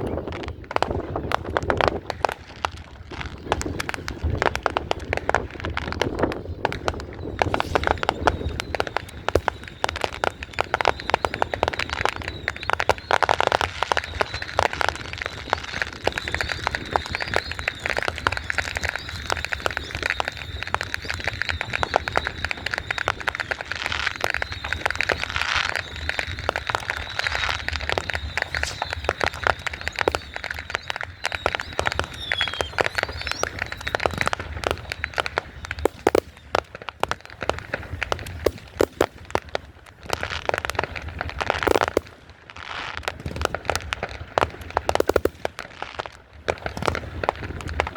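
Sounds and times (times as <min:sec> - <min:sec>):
fireworks cracking and banging: 0:00.0 - 0:47.9.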